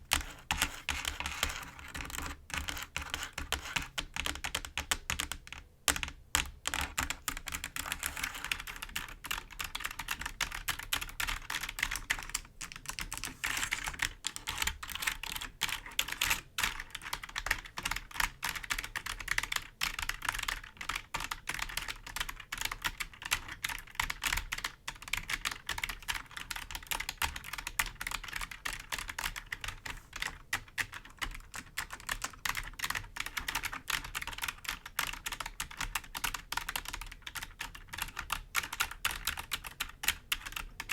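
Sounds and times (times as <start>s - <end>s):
computer keyboard clicking: 0.1s - 40.9s.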